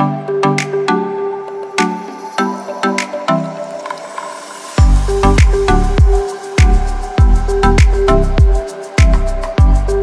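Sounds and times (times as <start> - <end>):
electronic music with plucked notes: 0.0 - 10.0.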